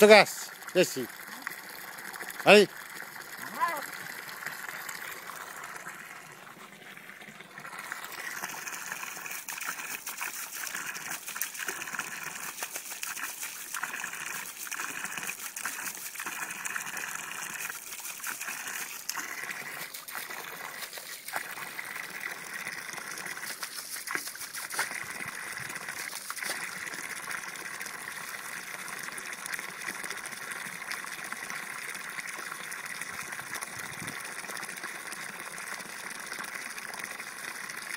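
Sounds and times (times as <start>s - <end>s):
hose water splashing into a pool: 0.0s - 37.9s.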